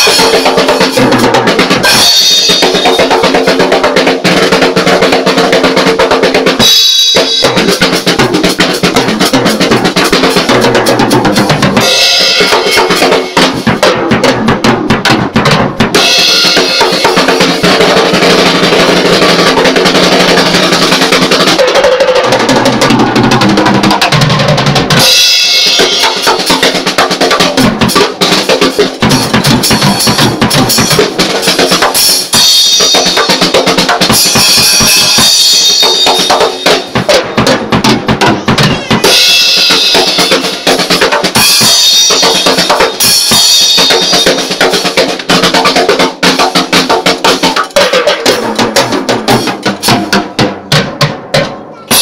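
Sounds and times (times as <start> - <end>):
drum kit playing fast: 0.0 - 52.0.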